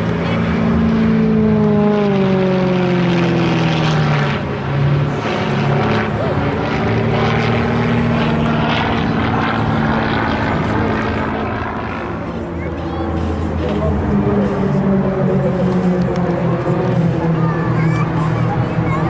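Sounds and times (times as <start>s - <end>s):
propeller plane engine passing: 0.0s - 19.0s.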